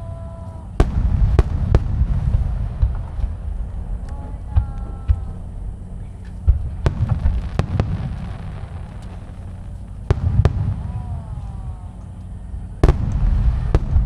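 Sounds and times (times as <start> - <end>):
low continuous rumble: 0.0 - 14.0
fireworks bursting: 0.7 - 14.0.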